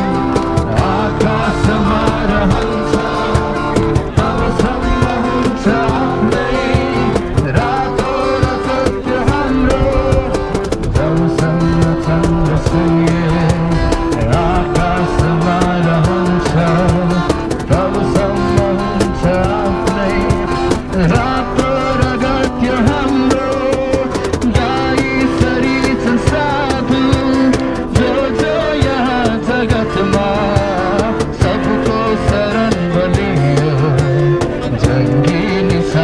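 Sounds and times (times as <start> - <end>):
acoustic guitars strummed: 0.0 - 36.0
cajon beat: 0.0 - 36.0
person singing: 0.0 - 36.0.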